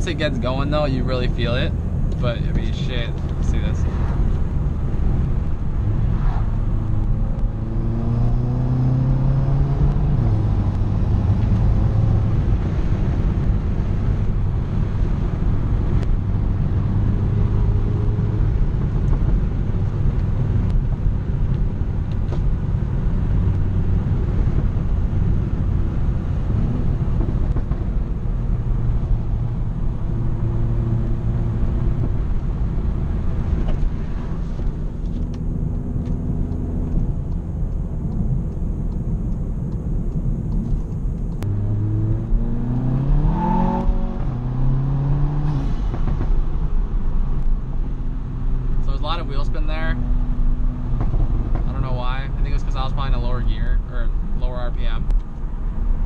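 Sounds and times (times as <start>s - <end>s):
turbocharged car engine accelerating: 0.0s - 53.4s
road noise: 0.0s - 56.0s.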